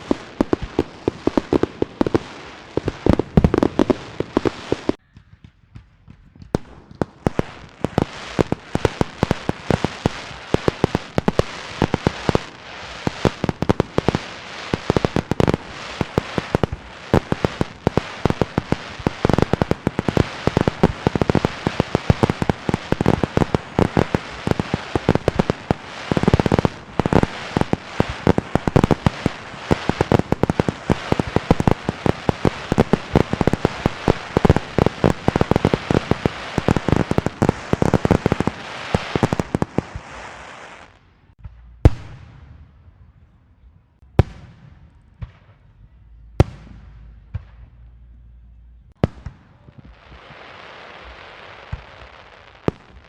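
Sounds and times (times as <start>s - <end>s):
firecrackers crackling: 0.0s - 42.7s, 48.9s - 53.0s.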